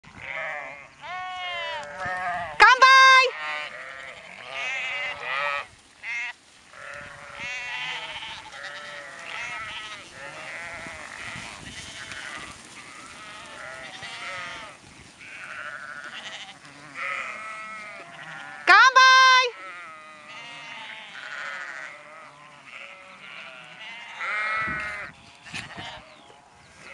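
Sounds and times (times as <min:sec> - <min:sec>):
sheep bleating: 0:00.1 - 0:26.9.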